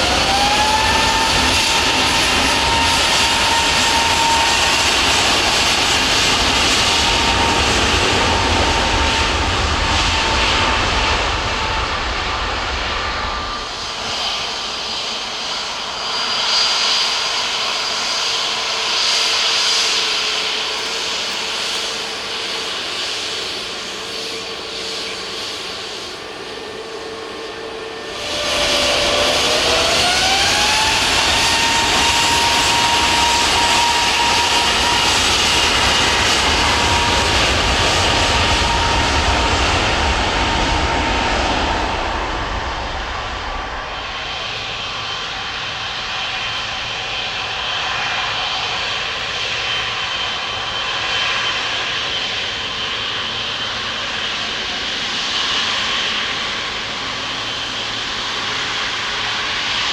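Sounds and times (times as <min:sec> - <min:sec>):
jet engine deep rumble: 0:00.0 - 0:59.9
jet engines whining: 0:00.0 - 0:59.9.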